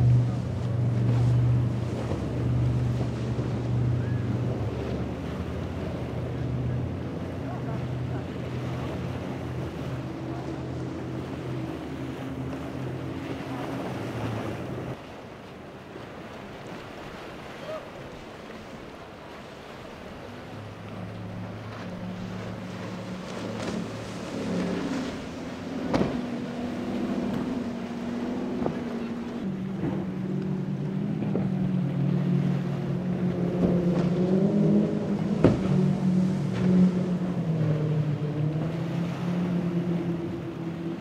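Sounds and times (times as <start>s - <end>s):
outboard motors running hard: 0.0s - 41.0s
water rushing: 0.0s - 41.0s.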